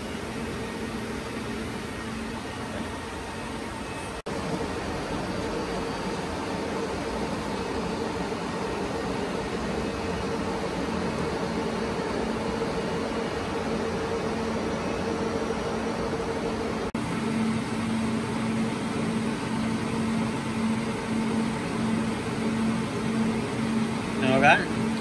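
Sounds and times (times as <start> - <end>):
server cooling fans whirring: 0.0 - 25.0.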